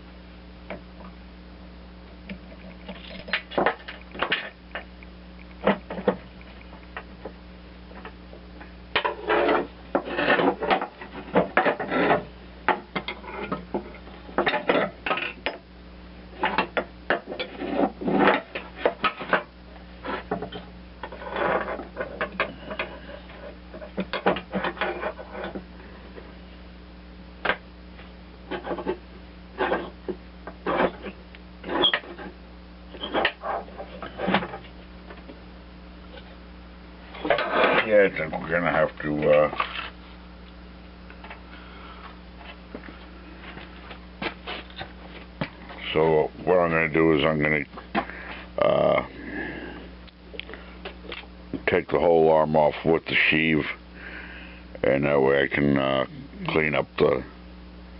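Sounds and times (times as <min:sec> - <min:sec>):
low steady hum: 0:00.0 - 0:57.9.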